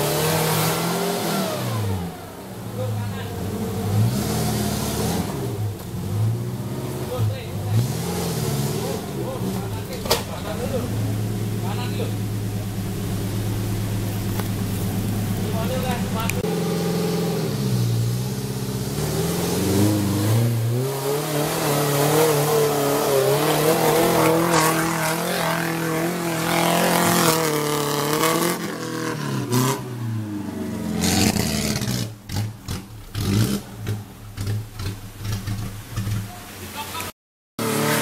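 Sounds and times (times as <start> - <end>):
engine revving: 0.0 - 36.4, 37.6 - 38.0.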